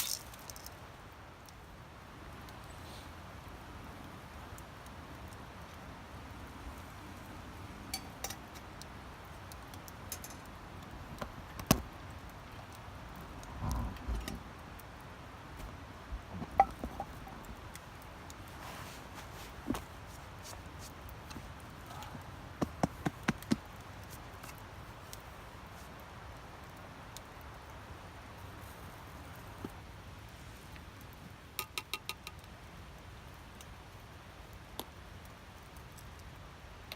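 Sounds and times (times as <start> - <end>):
low background noise: 0.0 - 36.9
low steady background noise: 0.0 - 36.9.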